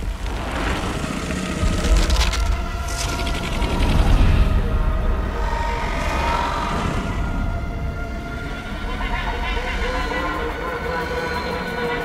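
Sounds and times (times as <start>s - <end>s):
deep creature rumble: 0.0s - 10.1s
droning tone: 0.0s - 12.0s.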